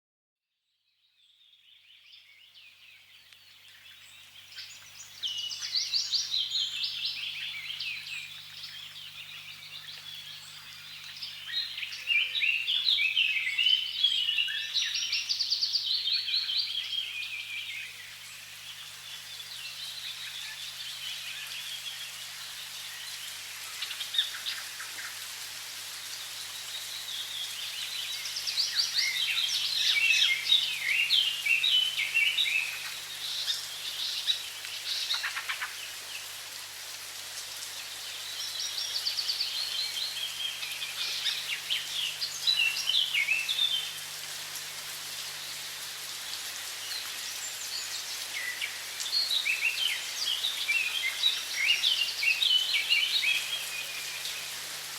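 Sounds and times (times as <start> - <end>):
songbirds singing and chirping: 1.2 - 54.9
running water hiss: 2.0 - 54.9.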